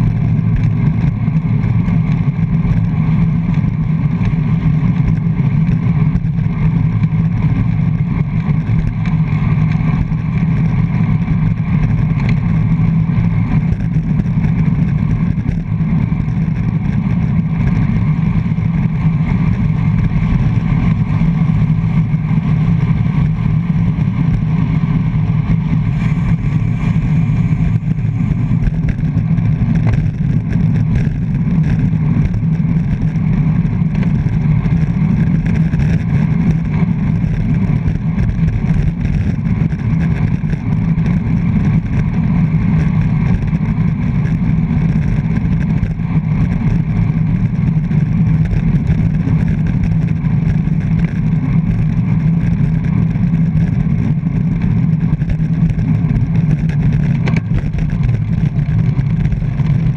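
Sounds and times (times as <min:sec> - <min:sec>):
loud wind rumble on camera: 0:00.0 - 0:59.9.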